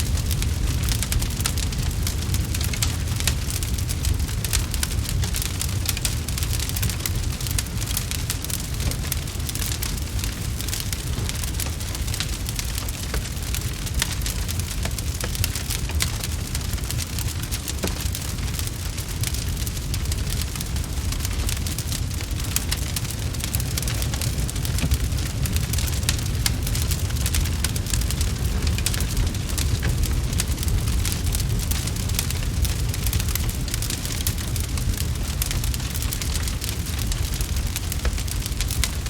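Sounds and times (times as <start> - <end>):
steady low rumble: 0.0 - 39.0
wood fire crackling: 0.0 - 39.0.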